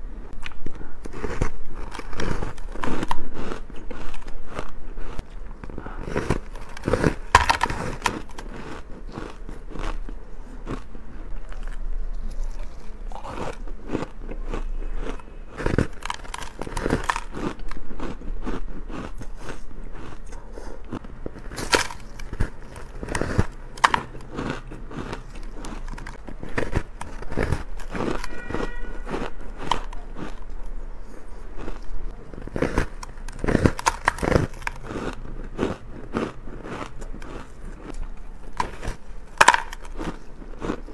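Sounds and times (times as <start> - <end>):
chewing crunchy ice: 0.3 - 40.9.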